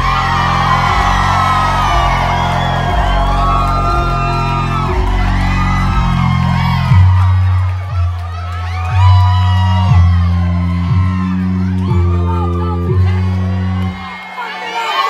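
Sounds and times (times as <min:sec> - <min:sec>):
heavy bass line: 0:00.0 - 0:14.2
live concert music: 0:00.0 - 0:14.3.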